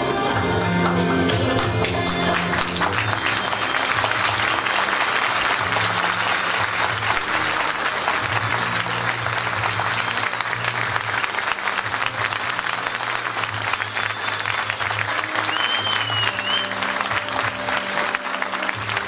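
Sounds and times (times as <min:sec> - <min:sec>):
music playing: 0:00.0 - 0:19.0
large audience applauding: 0:00.6 - 0:19.0.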